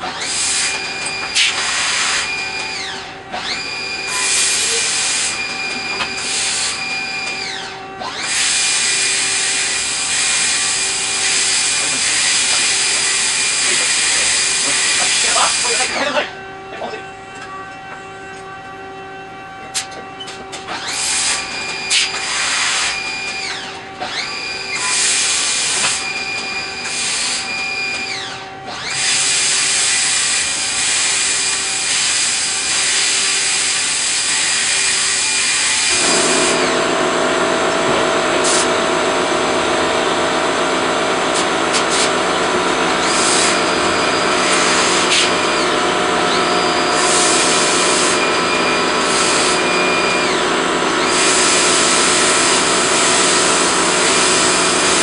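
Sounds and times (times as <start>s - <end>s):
power tool motor whining: 0.0s - 55.0s.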